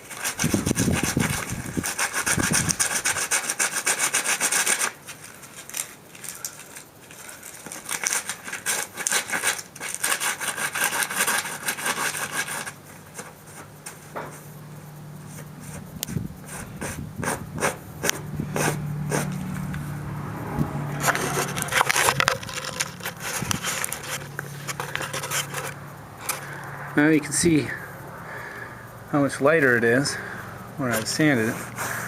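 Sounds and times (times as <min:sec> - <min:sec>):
sandpaper scraping pelt: 0:00.0 - 0:14.5, 0:15.2 - 0:19.8, 0:20.9 - 0:26.4, 0:30.8 - 0:32.0.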